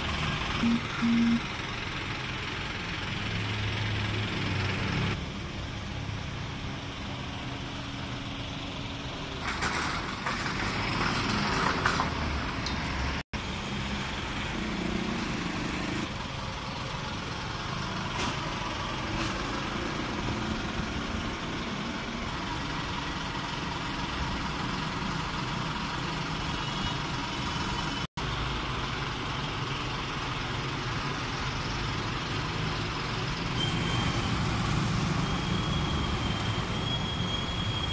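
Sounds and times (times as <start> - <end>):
road traffic and engine noise: 0.0 - 37.9.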